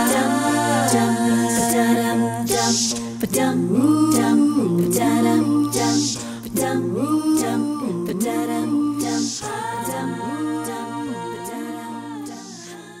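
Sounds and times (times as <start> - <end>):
voices singing harmonies: 0.0 - 13.0.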